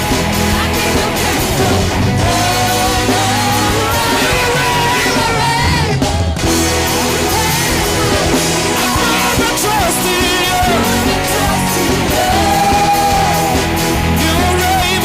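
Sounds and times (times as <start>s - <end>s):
amplified guitars: 0.0s - 15.0s
bass: 0.0s - 15.0s
drums: 0.0s - 15.0s
person singing: 0.0s - 15.0s.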